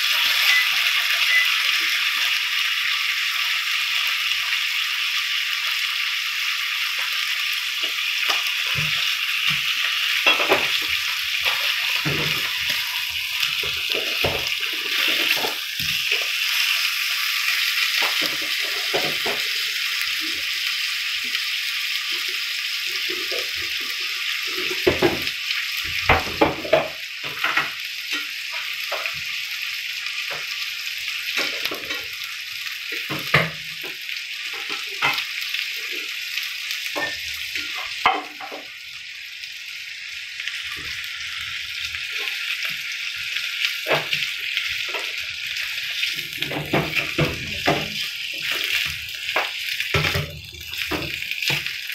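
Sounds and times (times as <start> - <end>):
steak sizzling in frying pan: 0.0 - 51.9.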